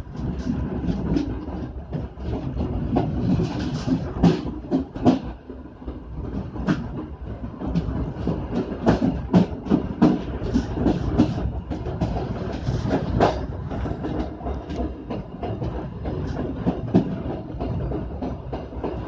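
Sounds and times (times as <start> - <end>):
train rumble: 0.0 - 19.0
wheels clacking over rail joints: 0.0 - 19.0.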